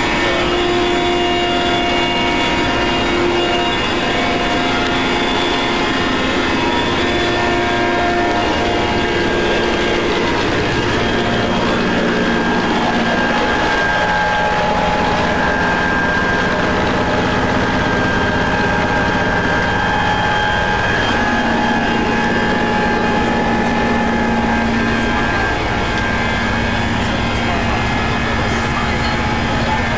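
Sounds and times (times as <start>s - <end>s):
helicopter cabin noise: 0.0s - 29.9s
whining tones: 0.0s - 29.9s.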